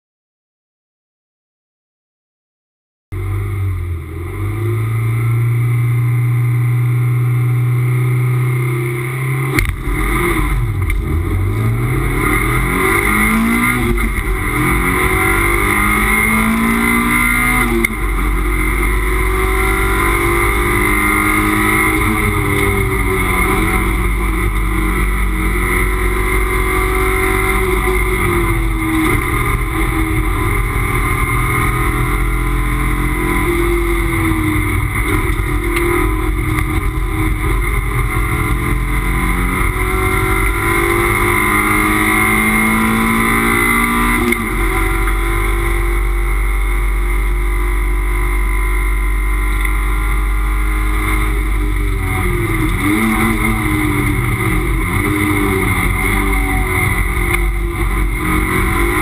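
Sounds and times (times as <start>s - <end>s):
gear changes: 3.2s - 59.0s
race car engine revving: 3.2s - 59.0s.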